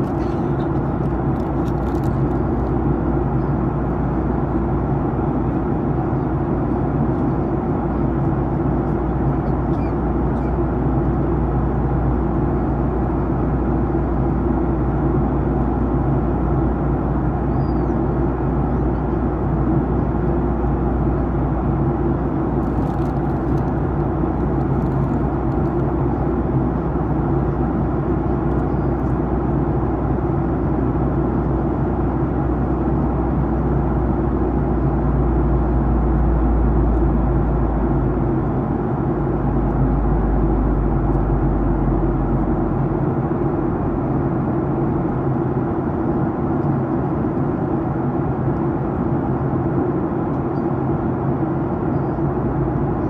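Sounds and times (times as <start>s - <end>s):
jet engines droning: 0.0s - 53.0s.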